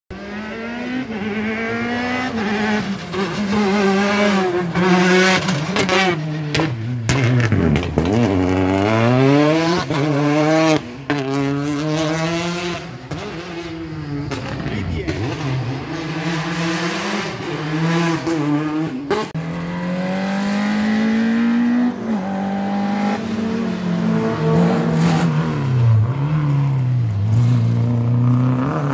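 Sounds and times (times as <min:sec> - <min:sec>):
car engine revving hard: 0:00.1 - 0:28.9.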